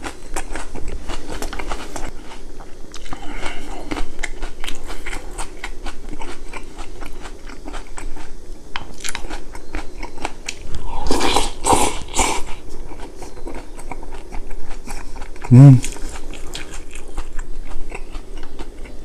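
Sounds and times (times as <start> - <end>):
close chewing with wet clicks: 0.0 - 10.8, 11.7 - 19.0.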